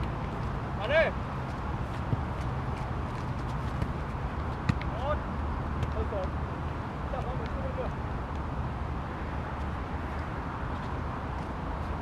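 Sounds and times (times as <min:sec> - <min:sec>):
vehicle rumble and road noise: 0:00.0 - 0:12.0.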